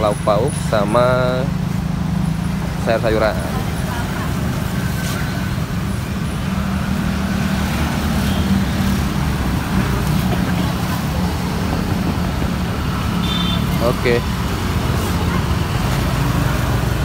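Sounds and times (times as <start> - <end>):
motorbikes passing close: 0.0 - 17.0
street traffic noise: 0.0 - 17.0.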